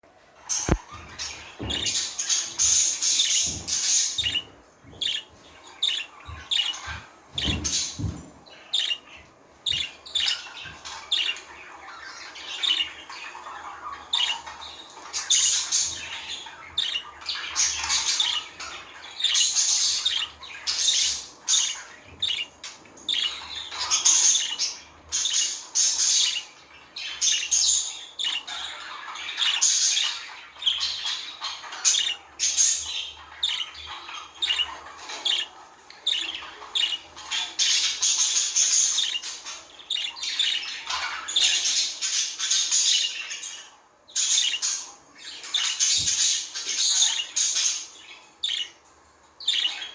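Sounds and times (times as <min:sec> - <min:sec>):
budgerigars chirping and chattering: 0:00.4 - 0:49.9.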